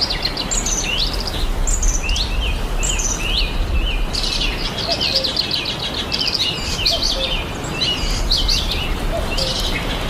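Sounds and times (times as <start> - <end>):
birds singing: 0.0 - 10.0.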